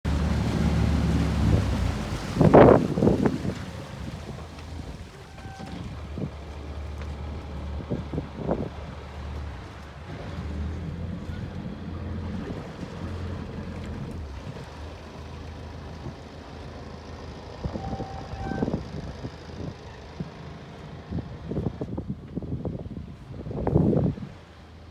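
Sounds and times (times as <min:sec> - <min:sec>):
motorboat engine humming: 0:00.0 - 0:24.9
wind buffeting microphone: 0:00.1 - 0:14.8, 0:17.5 - 0:24.4.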